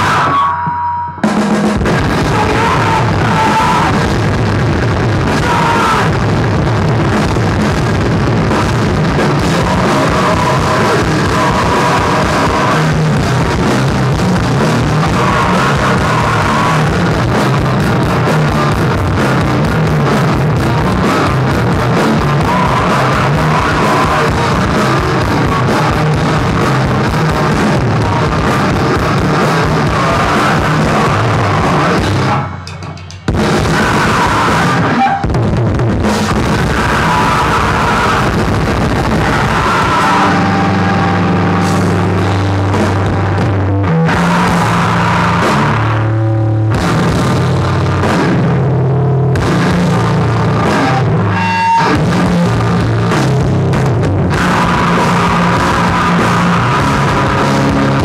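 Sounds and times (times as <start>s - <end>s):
drum kit: 0.0s - 58.0s.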